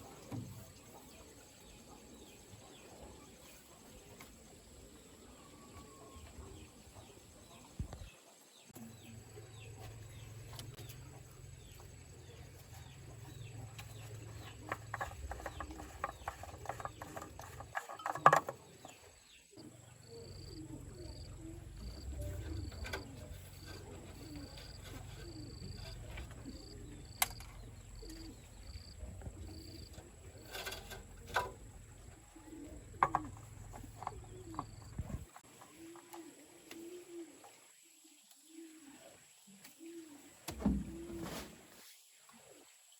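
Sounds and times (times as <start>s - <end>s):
birds calling: 0.0s - 37.6s.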